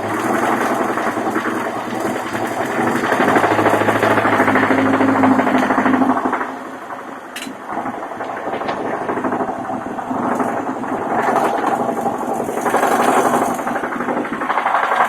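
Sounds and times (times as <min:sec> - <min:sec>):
engine running with rod knock: 0:00.0 - 0:15.0.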